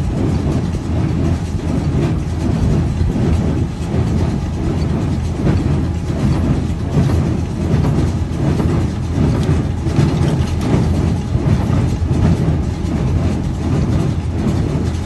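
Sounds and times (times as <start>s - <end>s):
baler mechanism clattering: 0.0s - 15.0s
tractor engine: 0.0s - 15.0s.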